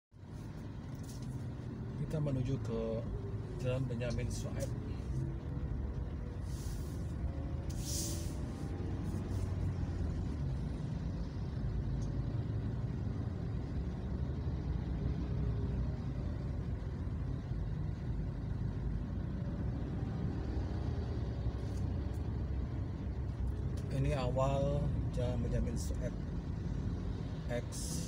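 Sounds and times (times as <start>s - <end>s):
car engine and road noise: 0.1s - 28.0s.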